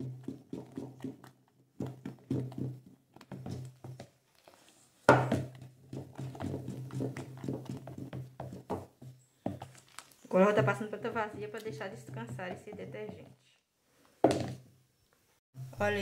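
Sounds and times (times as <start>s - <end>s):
wooden spoon stirring in bucket: 0.0s - 13.6s.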